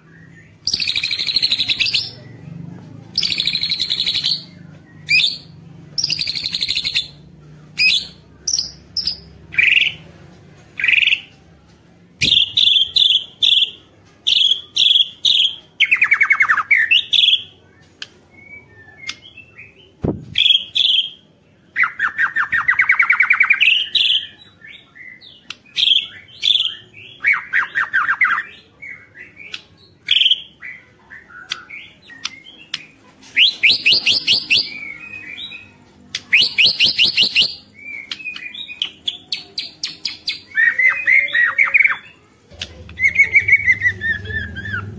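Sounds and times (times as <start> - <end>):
songbird whistled song: 0.0 - 2.5, 3.1 - 10.1, 10.8 - 11.4, 12.2 - 44.9.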